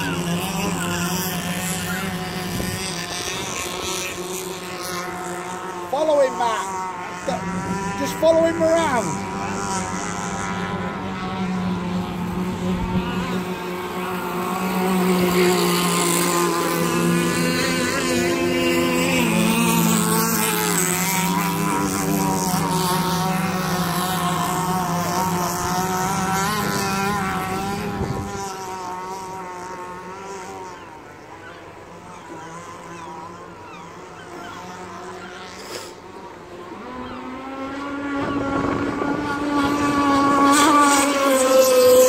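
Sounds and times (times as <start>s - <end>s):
model boat motors whining: 0.0s - 42.0s.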